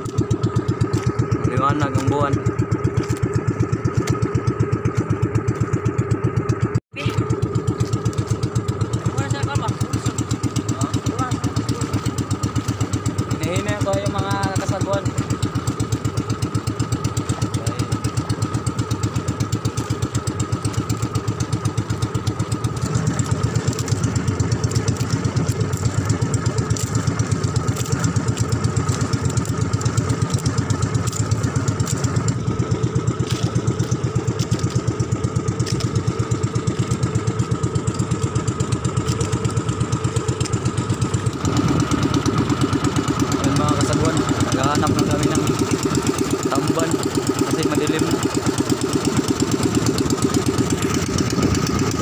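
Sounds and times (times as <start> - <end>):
boat engine running: 0.0 - 52.0
steady engine whine: 0.0 - 52.0.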